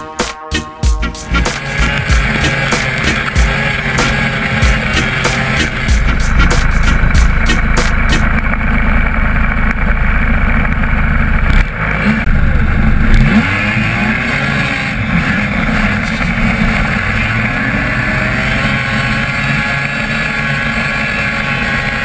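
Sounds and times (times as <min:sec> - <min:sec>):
snowmobile engine revving: 0:00.0 - 0:22.0
snowmobile track noise: 0:00.0 - 0:22.0.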